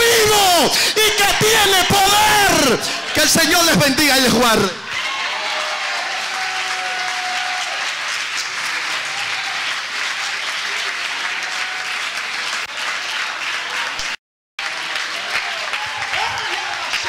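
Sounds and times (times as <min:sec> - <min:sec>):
crowd applauding: 0:00.4 - 0:17.0.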